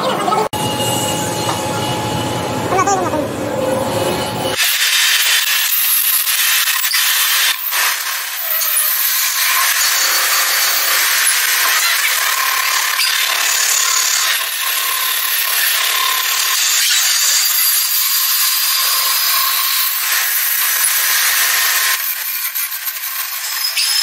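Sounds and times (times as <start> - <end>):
power tool cutting metal: 0.3 - 24.0.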